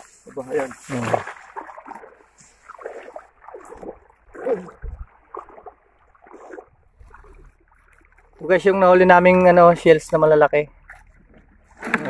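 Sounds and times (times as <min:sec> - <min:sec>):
seawater sloshing and splashing: 0:00.0 - 0:12.0.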